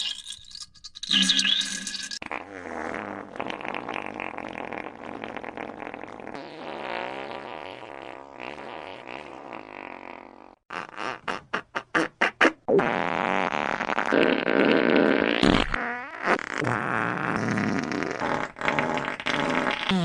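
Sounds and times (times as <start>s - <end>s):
fart sound effects: 1.1s - 20.0s.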